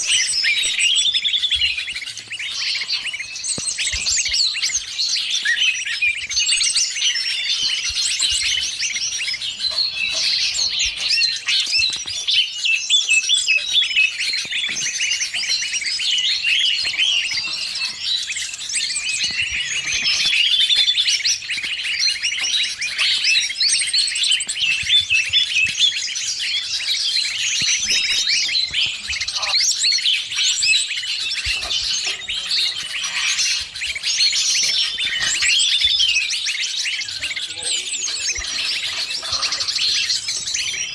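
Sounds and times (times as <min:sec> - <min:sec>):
leafbird calls: 0:00.0 - 0:40.9
small birds chirping: 0:00.0 - 0:40.9.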